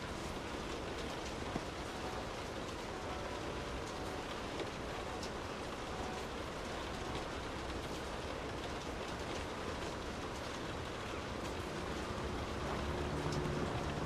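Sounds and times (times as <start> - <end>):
rain hissing: 0.0 - 14.0
raindrop ticks: 0.0 - 14.0.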